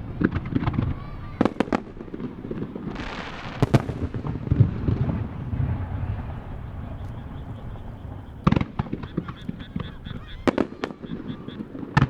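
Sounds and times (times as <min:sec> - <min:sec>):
deep firework booms: 0:00.0 - 0:11.9
sharp firework bangs: 0:00.0 - 0:12.0
firework shells bursting: 0:01.6 - 0:11.9
firework hiss: 0:01.7 - 0:11.5.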